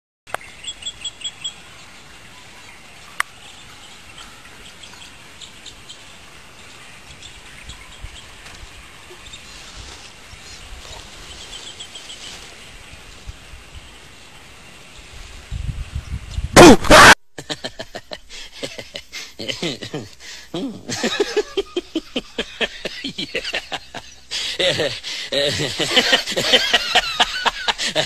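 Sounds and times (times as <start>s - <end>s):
small birds chirping: 0.3s - 16.5s, 18.3s - 28.0s
outdoor background hiss: 0.3s - 28.0s.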